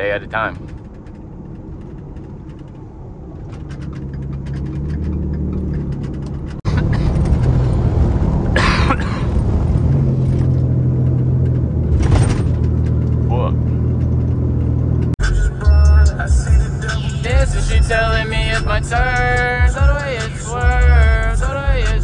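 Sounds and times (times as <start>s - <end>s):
road noise inside cab: 0.0s - 22.0s
truck engine running: 0.0s - 22.0s.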